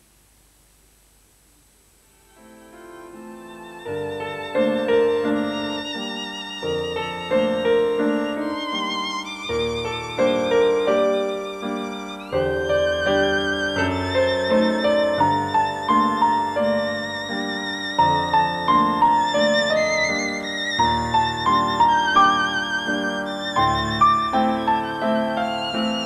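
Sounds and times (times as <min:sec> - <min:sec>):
piano chords: 0:02.1 - 0:26.0
violin melody: 0:02.1 - 0:26.0.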